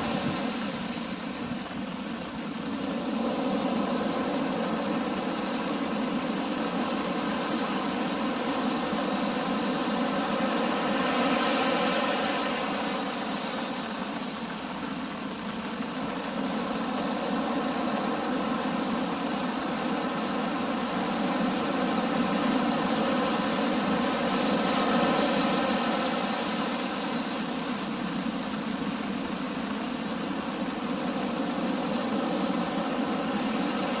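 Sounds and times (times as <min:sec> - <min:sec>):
surf washing in: 0:00.0 - 0:34.0.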